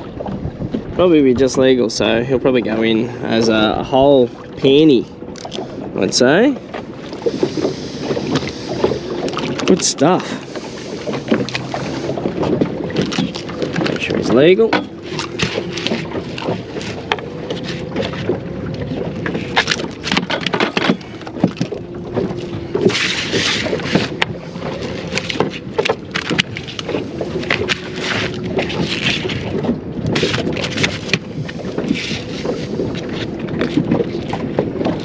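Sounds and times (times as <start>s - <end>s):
wind: 0.0s - 35.0s
fish being handled: 6.7s - 35.0s.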